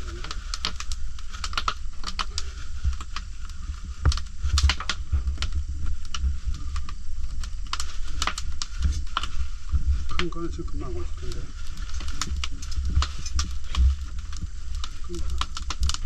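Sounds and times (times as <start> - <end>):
low rumble: 0.0 - 16.0
wood fire crackling and popping: 0.0 - 16.0.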